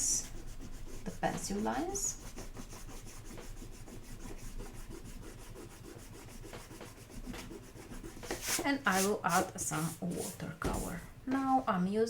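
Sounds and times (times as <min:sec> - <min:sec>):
eraser rubbing on paper: 0:00.0 - 0:11.0.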